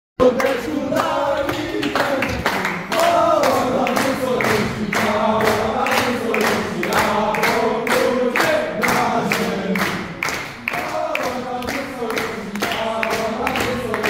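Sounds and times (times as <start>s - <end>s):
boys singing in unison: 0.2s - 14.0s
hand claps: 0.3s - 14.0s.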